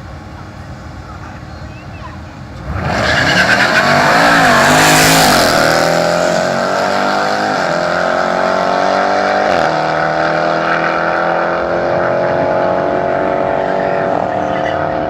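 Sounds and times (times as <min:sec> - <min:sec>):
car engine at full throttle: 0:02.2 - 0:15.0.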